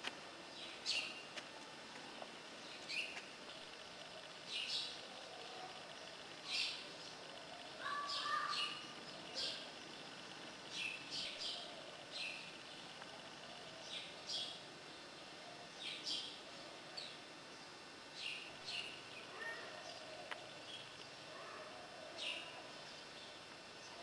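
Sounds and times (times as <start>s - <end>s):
small birds chirping: 0.5s - 1.4s, 2.5s - 24.0s.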